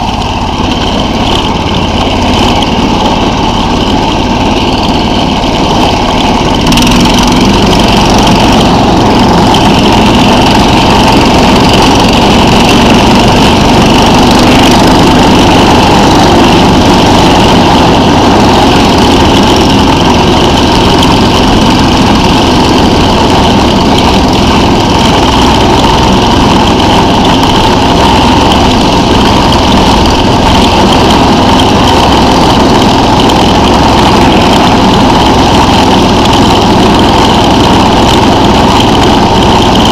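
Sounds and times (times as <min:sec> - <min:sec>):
snow machine engine running: 0:00.0 - 0:39.9.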